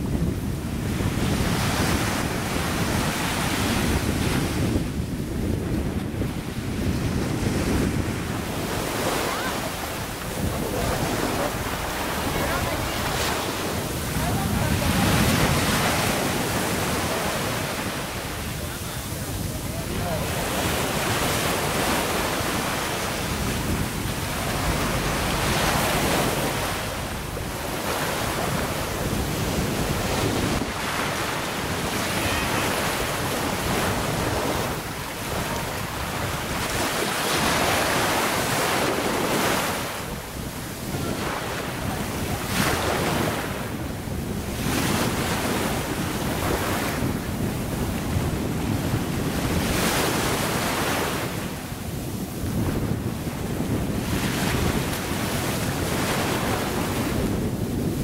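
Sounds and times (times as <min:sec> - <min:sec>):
small waves washing onto sand: 0:00.0 - 0:58.0
wind rumbling on microphone: 0:00.0 - 0:58.0.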